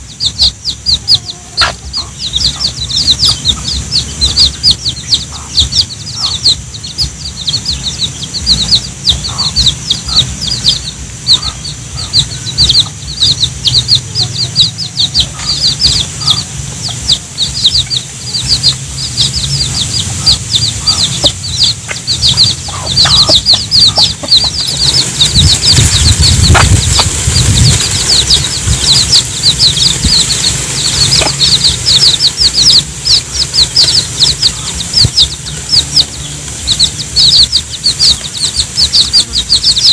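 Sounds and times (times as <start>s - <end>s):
baby chicks peeping: 0.0s - 39.9s
hen clucking: 0.0s - 39.9s
low rumble: 0.3s - 39.9s.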